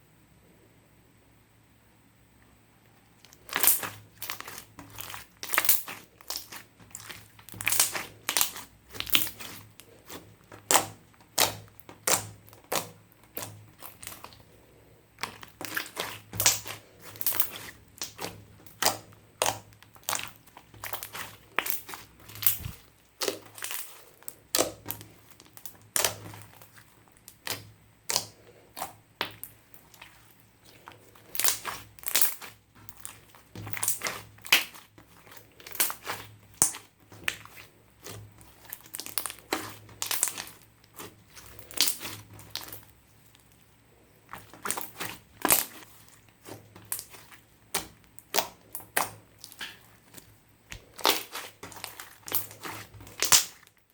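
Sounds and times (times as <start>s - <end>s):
slime squeezed by hand: 3.4s - 14.5s, 15.2s - 42.8s, 44.3s - 53.7s.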